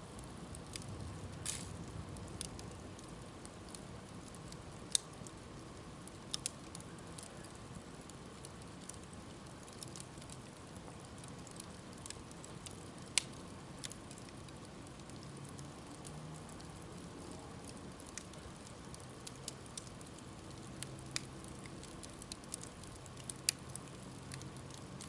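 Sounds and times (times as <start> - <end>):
campfire crackling and popping: 0.0 - 25.0
low hiss: 0.0 - 25.0.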